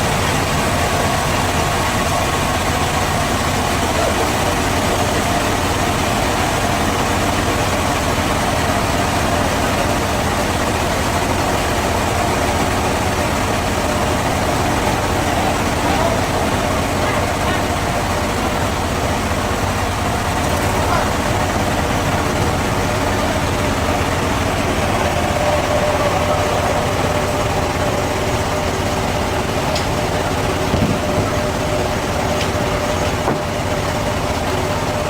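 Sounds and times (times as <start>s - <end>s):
sawmill machinery drone: 0.0s - 35.0s.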